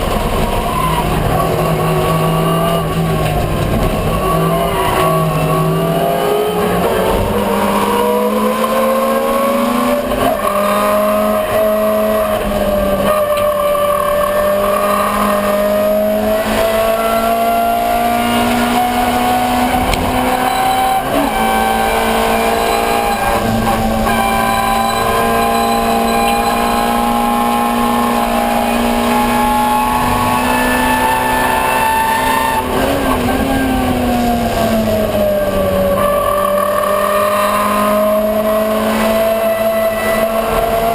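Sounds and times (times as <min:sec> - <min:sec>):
race car engine revving high: 0:00.0 - 0:40.9.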